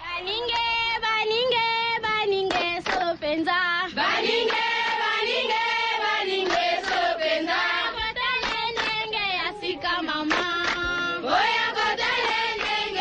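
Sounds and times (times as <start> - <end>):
voices chanting and singing: 0.0 - 13.0.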